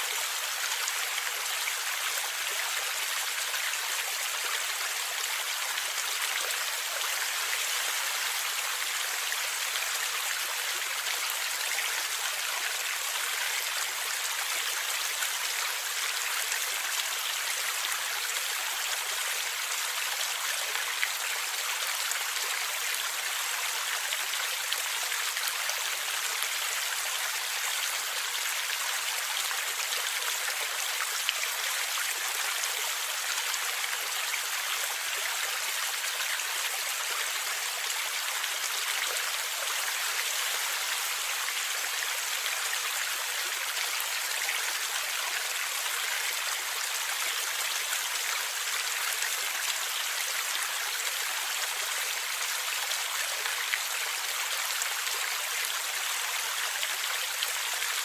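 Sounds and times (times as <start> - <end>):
stream water gurgling: 0.0 - 58.0.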